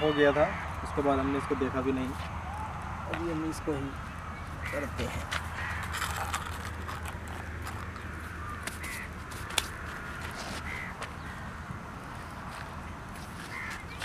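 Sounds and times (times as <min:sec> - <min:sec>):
crows cawing: 0:00.0 - 0:01.6, 0:02.3 - 0:11.6, 0:13.4 - 0:14.0.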